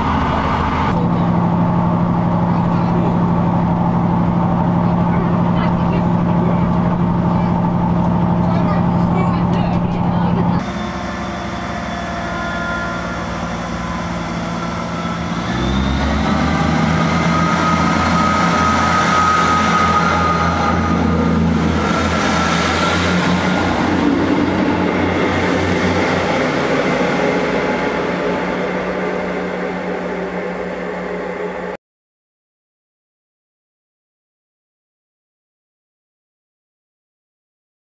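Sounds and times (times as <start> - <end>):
diesel train passing: 0.0 - 31.8
high whine: 0.0 - 31.8.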